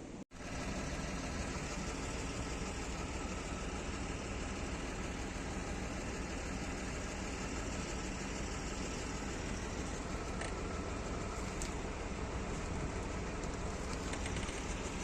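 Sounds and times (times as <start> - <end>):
bus diesel engine idling: 0.0 - 15.0.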